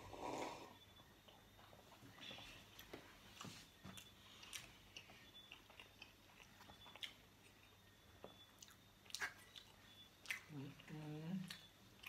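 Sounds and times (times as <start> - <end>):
close-up chewing: 1.3 - 12.0.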